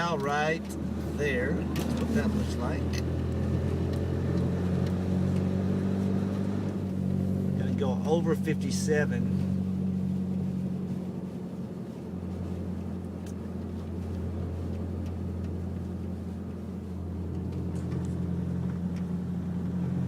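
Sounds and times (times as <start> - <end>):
engine and road drone: 0.0 - 20.0.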